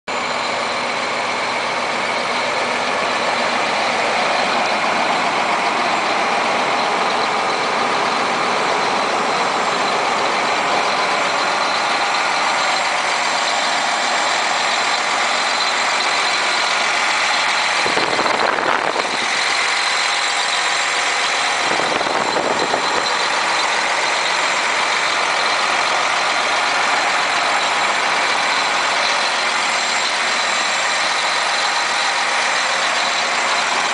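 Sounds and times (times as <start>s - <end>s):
diesel tractor engine idling: 0.0s - 33.9s.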